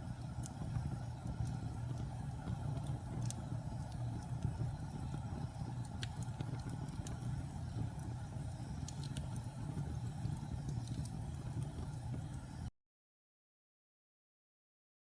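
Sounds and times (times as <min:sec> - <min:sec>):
fire crackling and popping: 0:00.0 - 0:12.7
low rumble of flames: 0:00.0 - 0:12.7.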